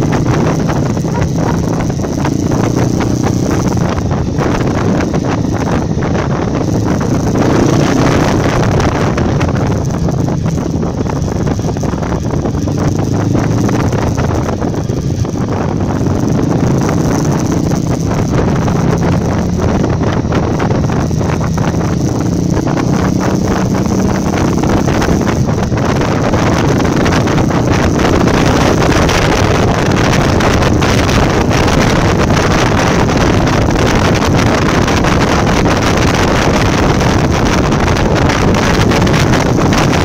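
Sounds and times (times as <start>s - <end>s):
motorcycle engine running: 0.0s - 40.0s
wind buffeting microphone: 0.0s - 40.0s.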